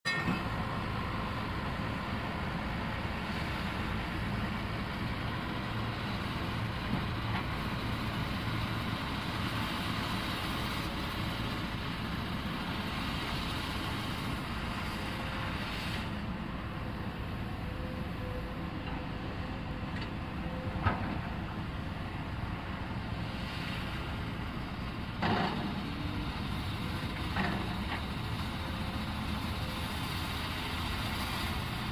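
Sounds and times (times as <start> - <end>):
excavator diesel engine running: 0.1 - 31.9.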